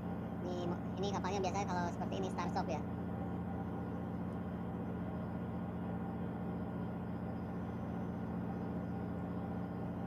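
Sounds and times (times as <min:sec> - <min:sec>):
marine diesel engines droning: 0:00.0 - 0:10.0.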